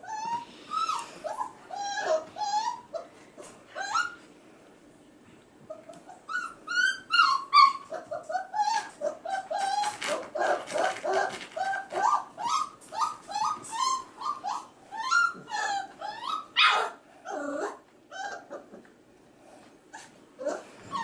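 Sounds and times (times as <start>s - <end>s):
puppies yelping and whining: 0.0s - 4.3s, 5.7s - 18.9s, 19.9s - 21.0s.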